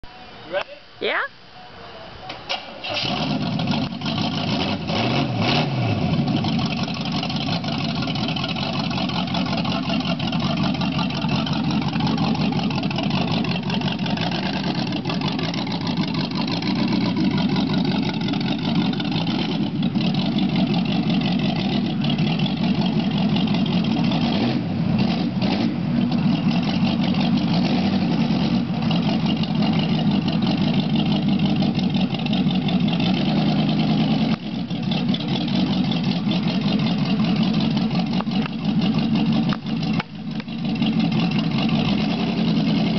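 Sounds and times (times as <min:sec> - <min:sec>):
truck engine starting and revving: 0:02.4 - 0:42.9.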